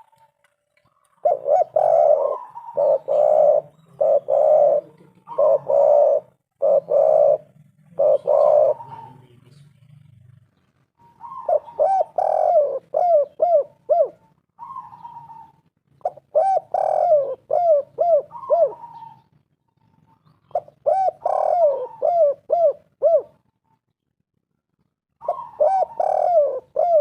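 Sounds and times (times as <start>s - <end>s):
dove cooing: 0.9s - 9.5s, 11.0s - 23.8s, 25.2s - 27.0s.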